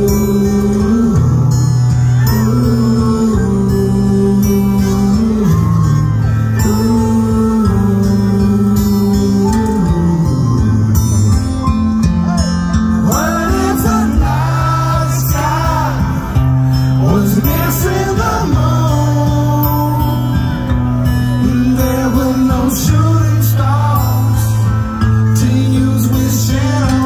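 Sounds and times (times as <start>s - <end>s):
man singing into a microphone: 0.0s - 27.0s
sustained bass notes: 0.0s - 27.0s
live band playing: 4.1s - 27.0s.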